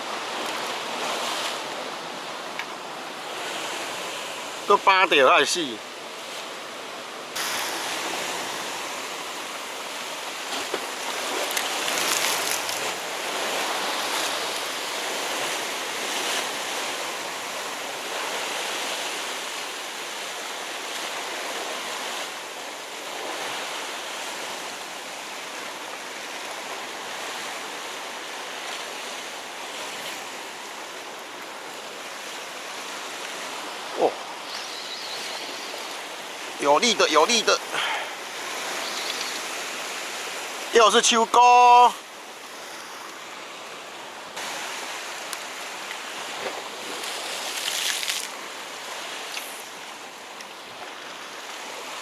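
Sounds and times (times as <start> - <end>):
sea waves washing against rocks: 0.0 - 52.0.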